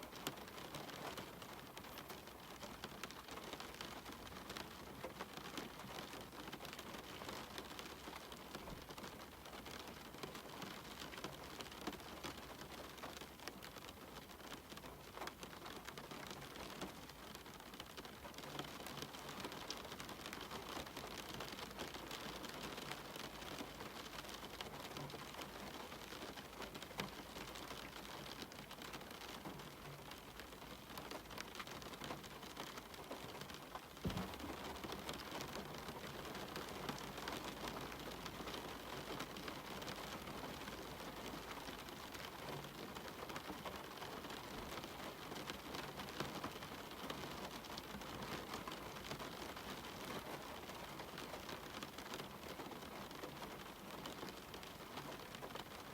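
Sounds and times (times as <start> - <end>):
rain on a window: 0.0 - 55.9
raindrops ticking: 0.1 - 55.9.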